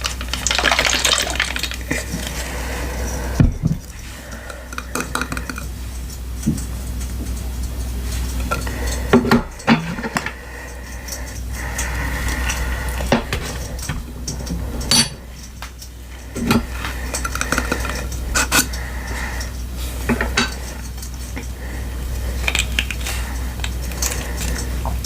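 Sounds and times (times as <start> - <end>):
utensil clinking against a container: 0.0 - 21.7
steady low hum: 0.0 - 25.0.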